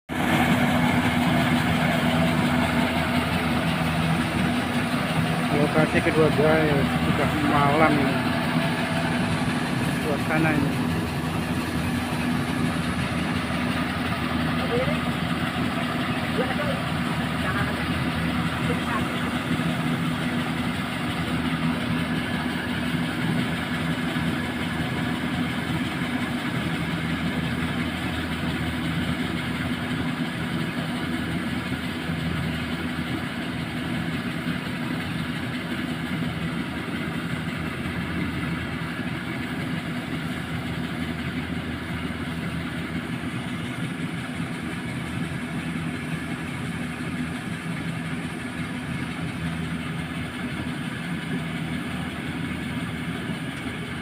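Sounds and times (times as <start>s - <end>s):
harvester engine humming: 0.1s - 54.0s.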